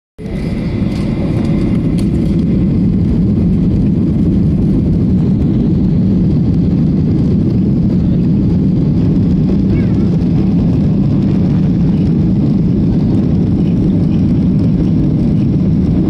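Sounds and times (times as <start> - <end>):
jet engines deep rumble: 0.2 - 16.0.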